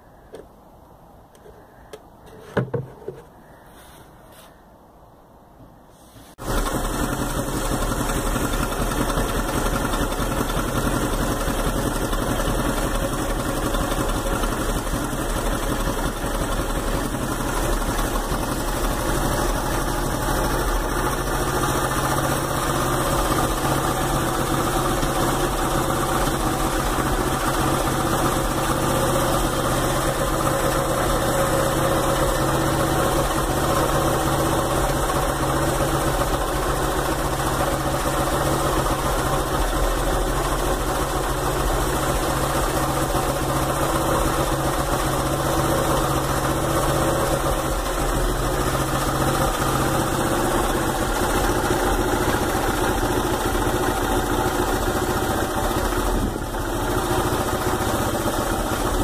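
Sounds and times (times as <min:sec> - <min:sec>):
motorcycle engine idling: 0:06.4 - 0:59.0.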